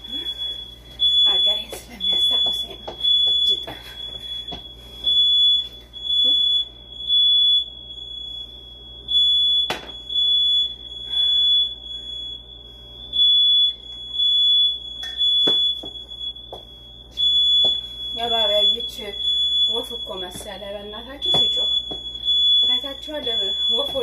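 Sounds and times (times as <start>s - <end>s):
smoke alarm beeping: 0.0s - 24.0s.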